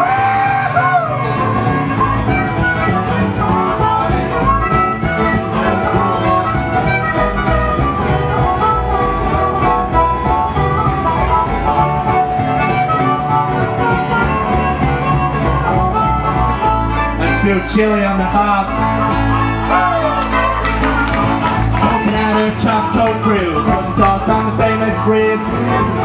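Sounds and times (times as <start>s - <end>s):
harmonica solo: 0.0s - 26.0s
strummed acoustic guitar: 0.0s - 26.0s
upright bass: 0.0s - 26.0s.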